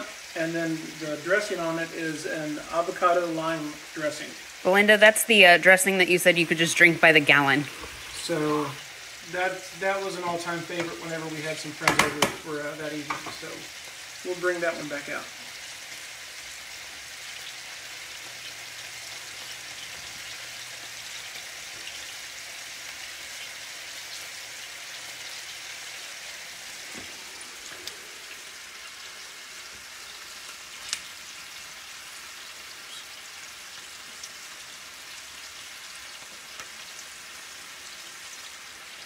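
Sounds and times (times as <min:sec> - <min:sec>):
scallops sizzling in a pan: 0:00.0 - 0:39.0.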